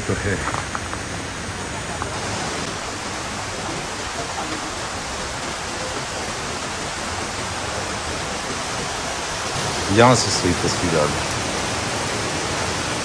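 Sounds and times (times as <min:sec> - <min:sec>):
rushing water of waterfalls: 0:00.0 - 0:13.0.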